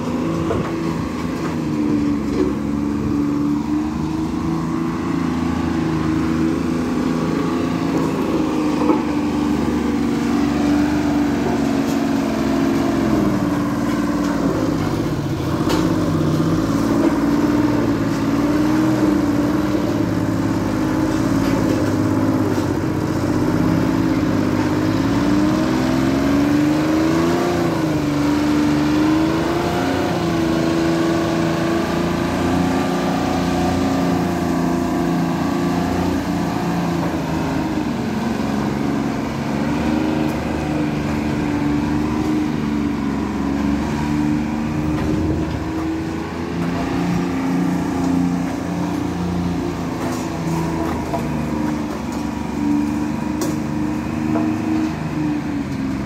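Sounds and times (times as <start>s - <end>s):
diesel road roller engine running: 0.0s - 56.0s.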